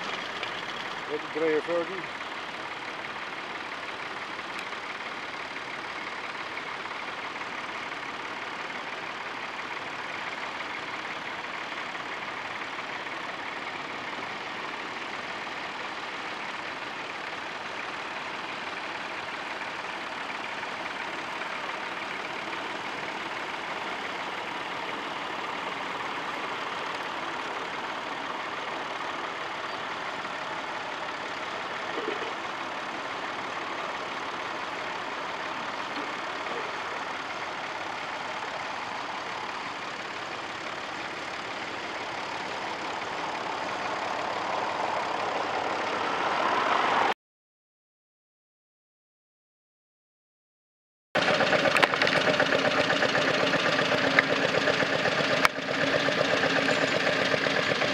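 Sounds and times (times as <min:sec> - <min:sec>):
tractor engine under load: 0:00.0 - 0:46.2, 0:51.2 - 0:57.9.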